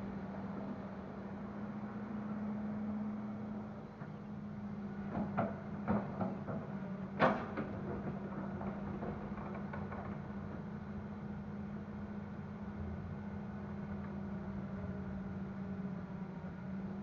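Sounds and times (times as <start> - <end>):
excavator diesel engine: 0.0 - 17.0.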